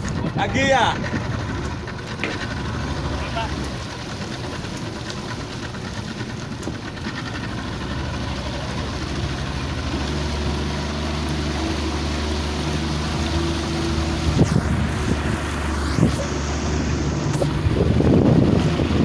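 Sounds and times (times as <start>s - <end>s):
motorboat engine running: 0.0s - 19.0s
water noise: 0.0s - 19.0s
wind: 0.0s - 19.0s.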